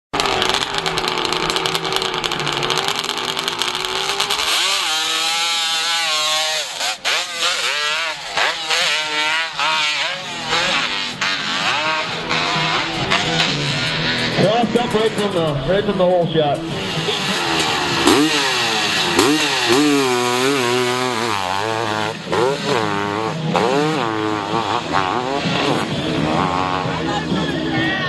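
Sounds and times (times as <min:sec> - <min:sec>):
motocross bike engine revving: 0:00.2 - 0:27.8.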